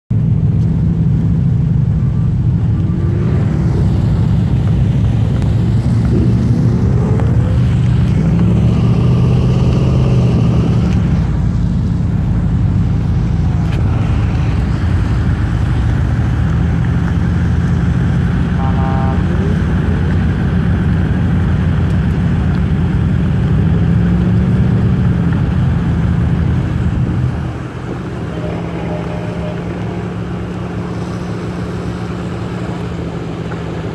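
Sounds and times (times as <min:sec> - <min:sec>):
car engines revving: 0:00.1 - 0:33.9.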